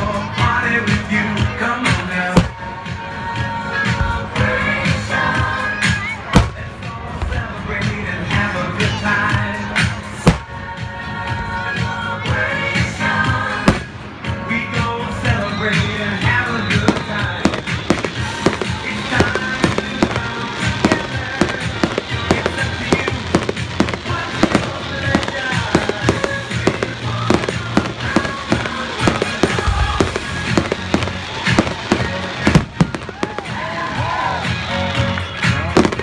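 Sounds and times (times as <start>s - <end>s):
fireworks bangs and crackles: 0.0s - 36.0s
music: 0.0s - 36.0s.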